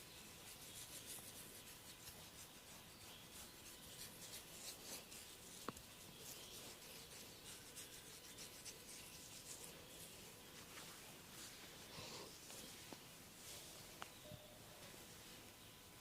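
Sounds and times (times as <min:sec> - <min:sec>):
scratching and rubbing on hair: 0:00.0 - 0:14.2.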